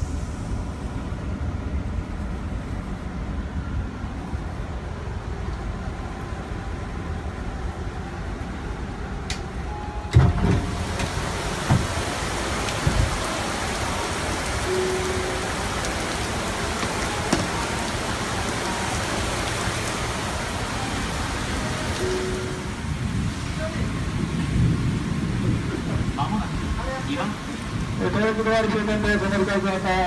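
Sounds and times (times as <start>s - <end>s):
torrential rain pouring: 4.3s - 30.0s.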